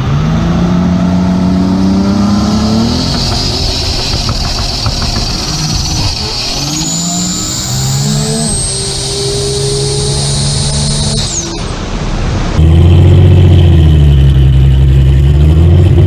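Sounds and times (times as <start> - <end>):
high whine: 0.0 - 16.0
racing car engine accelerating: 0.0 - 16.0.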